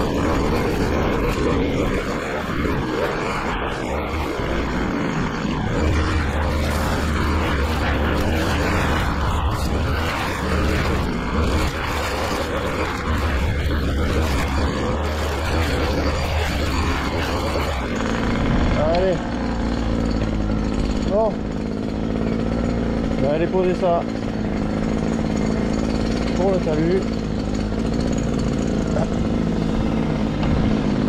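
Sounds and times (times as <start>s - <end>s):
petrol engine machine droning: 0.0s - 31.0s.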